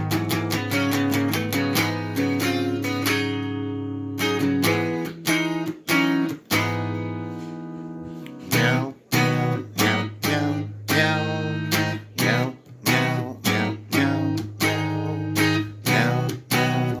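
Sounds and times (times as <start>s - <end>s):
guitar strummed: 0.0s - 17.0s.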